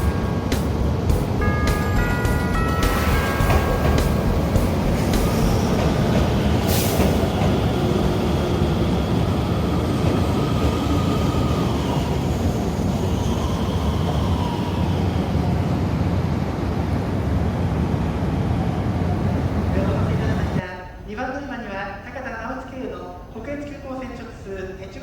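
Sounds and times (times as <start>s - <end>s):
diesel railcar engine and wheels: 0.0s - 20.7s.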